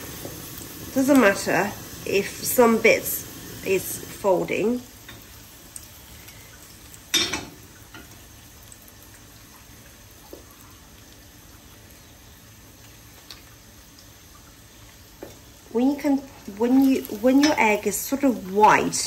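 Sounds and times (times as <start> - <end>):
omelette sizzling in a pan: 0.0 - 19.0.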